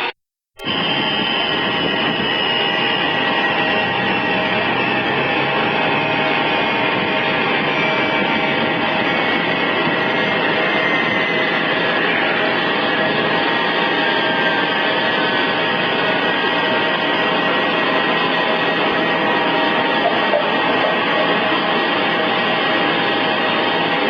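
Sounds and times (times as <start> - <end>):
jet engines idling: 0.6 - 24.0.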